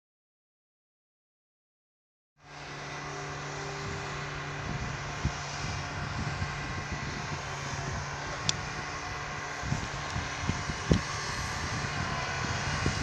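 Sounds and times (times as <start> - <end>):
diesel locomotive engine running: 2.4 - 13.0.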